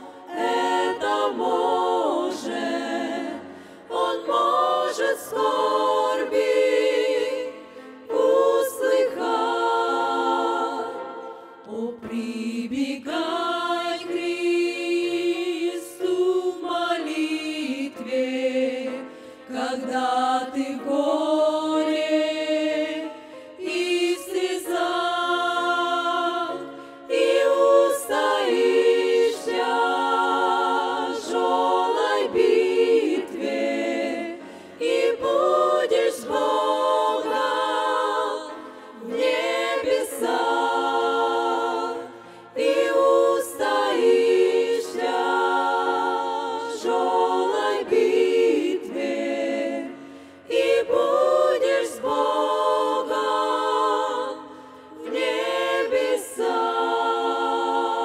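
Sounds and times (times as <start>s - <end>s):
women's choir singing a cappella: 0.0s - 58.0s.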